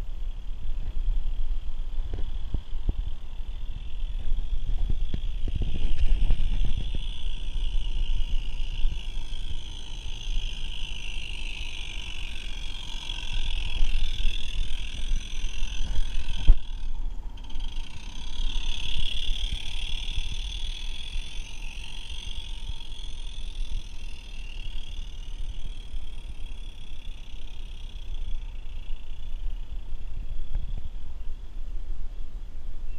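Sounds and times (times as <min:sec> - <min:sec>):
small wheels rolling on track: 0:00.0 - 0:31.6
steady high hiss: 0:00.0 - 0:32.9.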